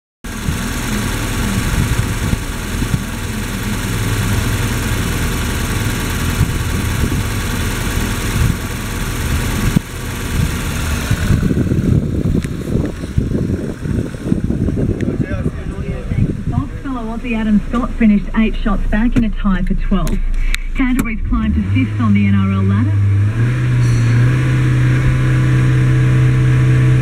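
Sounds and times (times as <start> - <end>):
car engine idling: 0.2 - 27.0.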